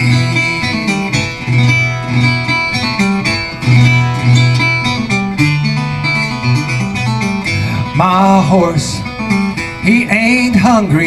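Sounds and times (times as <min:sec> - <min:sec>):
banjo picking: 0:00.0 - 0:11.0.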